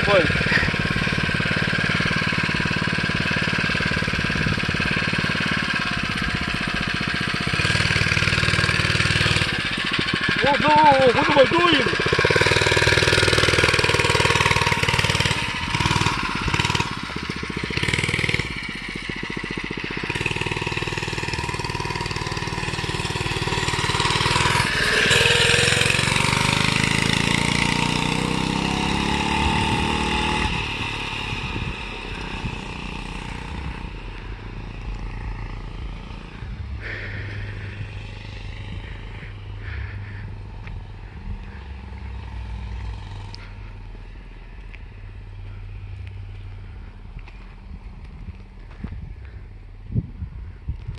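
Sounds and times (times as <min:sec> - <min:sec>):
mini bike engine running: 0:00.0 - 0:49.6.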